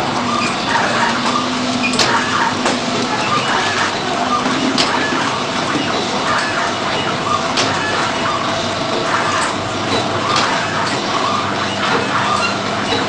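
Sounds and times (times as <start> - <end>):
packing machine running: 0.0 - 13.0.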